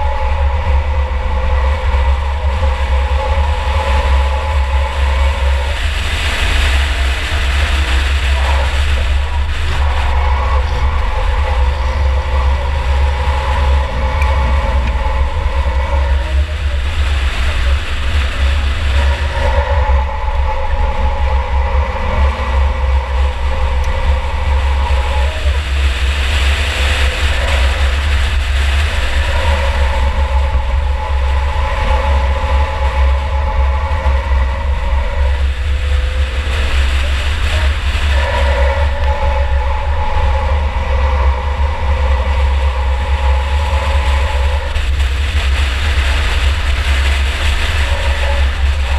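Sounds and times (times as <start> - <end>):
race car engine rumbling: 0.0 - 48.9.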